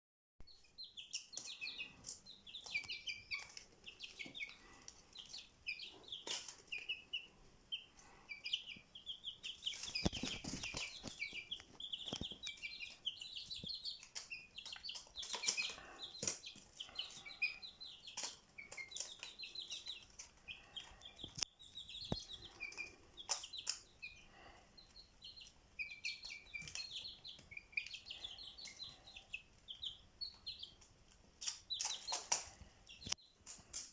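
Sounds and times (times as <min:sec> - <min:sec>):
small birds chirping: 0:00.4 - 0:33.9.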